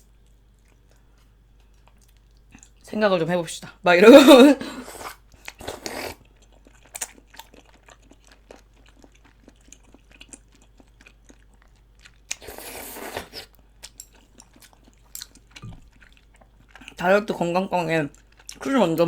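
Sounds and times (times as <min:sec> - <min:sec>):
person chewing and smacking: 0:00.1 - 0:02.8, 0:05.0 - 0:19.0.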